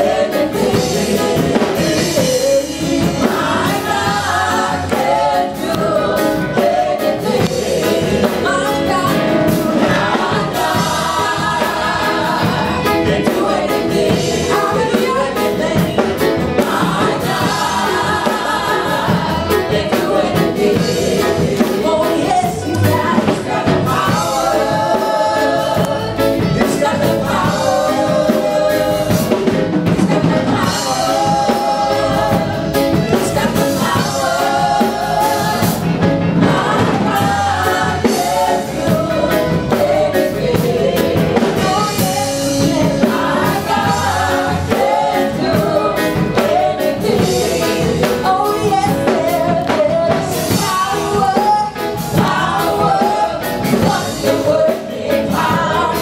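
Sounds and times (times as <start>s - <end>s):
drum kit: 0.0s - 56.0s
group singing worship song: 0.0s - 56.0s.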